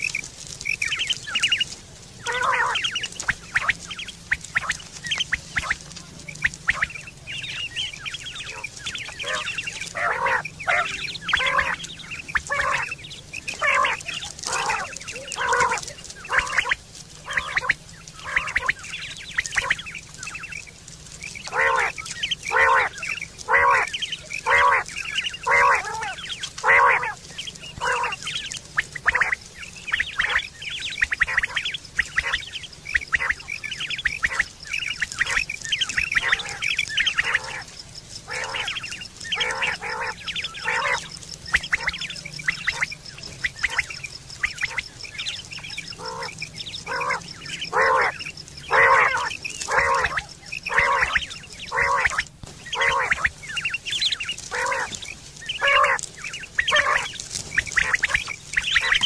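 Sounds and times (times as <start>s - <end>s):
short repeated bird calls: 0.0s - 59.0s.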